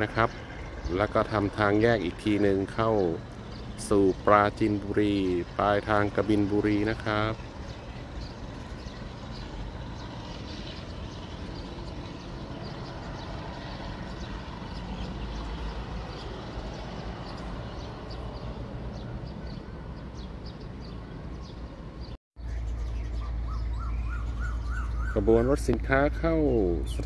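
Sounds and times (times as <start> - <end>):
train wheels and engine rumble: 0.0 - 27.0.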